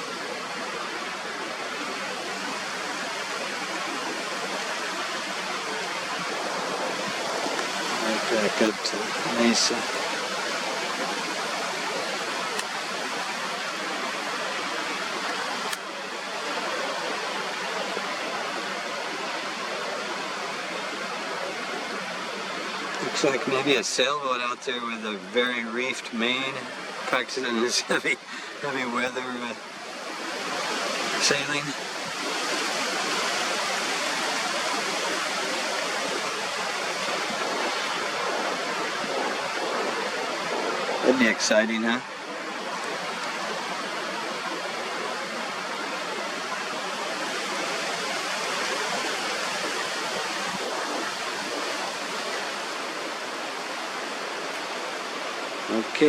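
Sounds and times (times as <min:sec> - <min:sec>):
rushing wind: 0:00.0 - 0:56.0.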